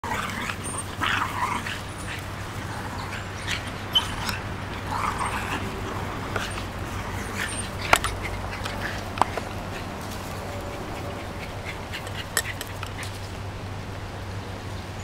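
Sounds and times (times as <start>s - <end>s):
dogs playing rough: 0.0s - 13.7s
steady low hum: 0.0s - 15.0s.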